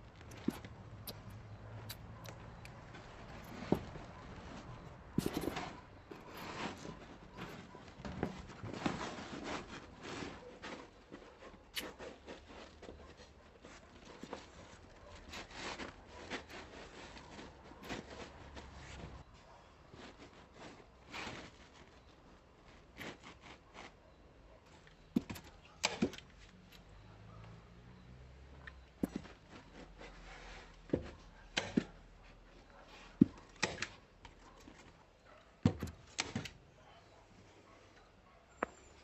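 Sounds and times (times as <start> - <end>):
scrapes of manual work: 0.0 - 39.0.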